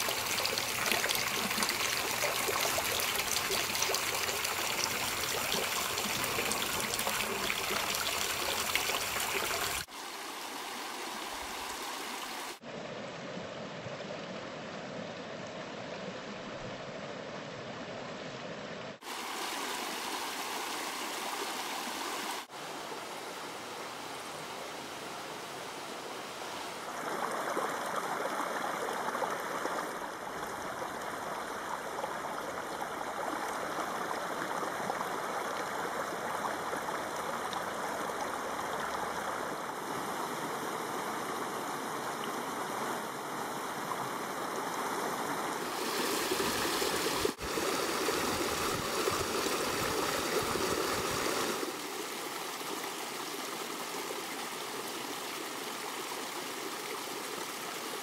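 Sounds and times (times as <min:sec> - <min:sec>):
creek splashing over stones: 0:00.0 - 0:12.6, 0:19.0 - 0:22.9, 0:26.6 - 0:58.0.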